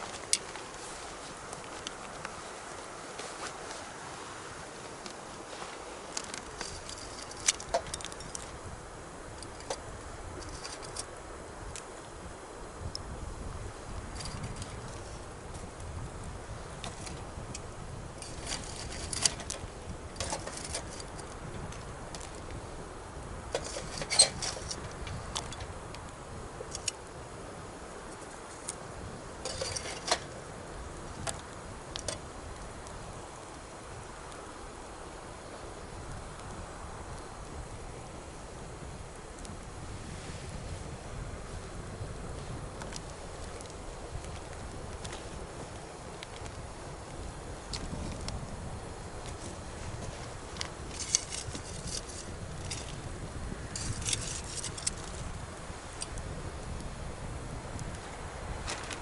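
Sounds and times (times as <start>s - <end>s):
campfire crackling and popping: 0.0s - 3.2s, 6.0s - 34.6s, 35.5s - 59.0s.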